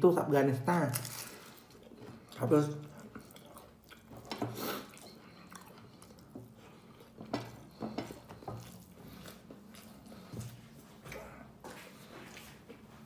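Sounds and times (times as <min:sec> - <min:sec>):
person chewing: 0:00.9 - 0:12.7.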